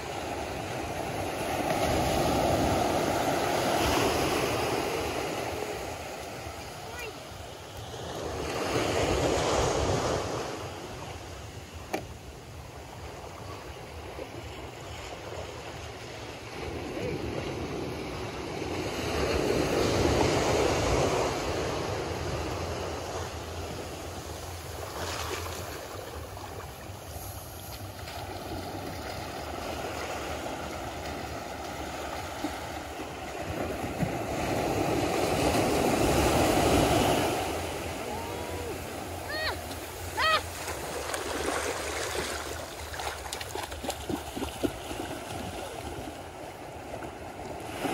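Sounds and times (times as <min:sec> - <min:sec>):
ocean surf washing up beach: 0:00.0 - 0:47.9.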